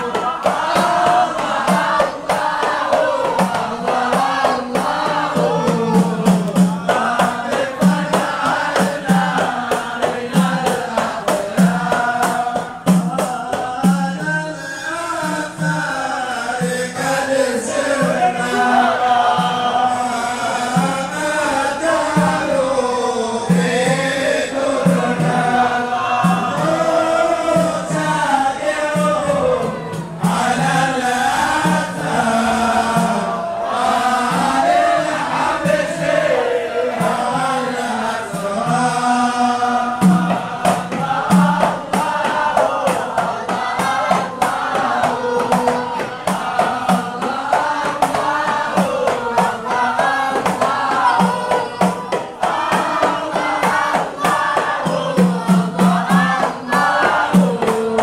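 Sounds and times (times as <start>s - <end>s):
hand-struck frame drums: 0.0s - 22.8s, 23.5s - 58.0s
men singing devotional song: 0.0s - 58.0s.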